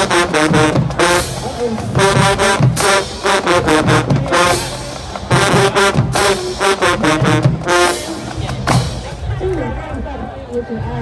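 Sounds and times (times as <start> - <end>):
sharp percussive hits: 0.0 - 9.4
marching band brass playing: 0.0 - 10.0.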